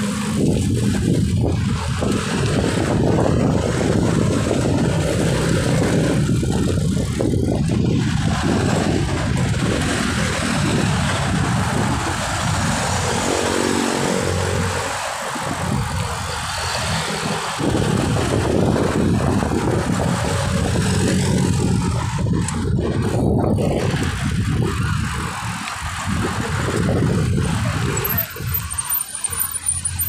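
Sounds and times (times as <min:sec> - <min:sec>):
road traffic: 0:00.0 - 0:30.0
wind rushing over microphone: 0:00.0 - 0:30.0.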